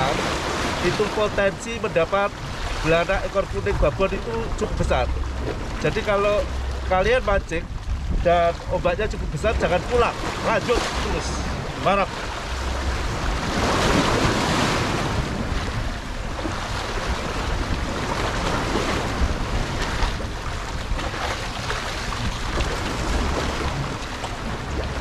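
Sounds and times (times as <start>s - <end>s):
waves washing against rocks: 0.0s - 25.0s
wind buffeting microphone: 0.0s - 25.0s.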